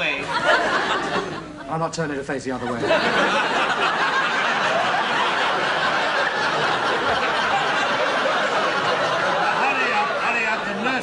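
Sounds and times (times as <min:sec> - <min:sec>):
studio audience laughing: 0:00.0 - 0:01.8, 0:02.6 - 0:11.0.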